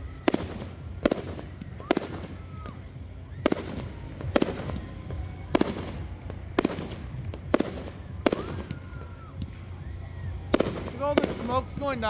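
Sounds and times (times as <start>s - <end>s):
fireworks booming with echo: 0.0s - 12.0s.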